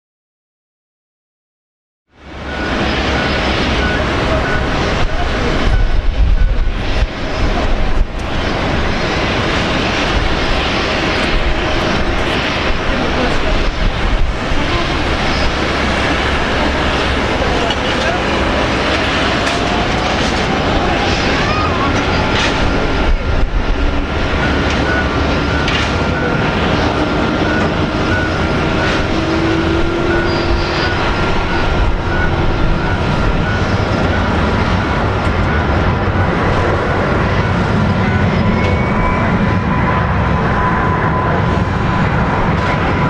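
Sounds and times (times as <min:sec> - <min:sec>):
jet engines rushing: 0:02.2 - 0:43.0.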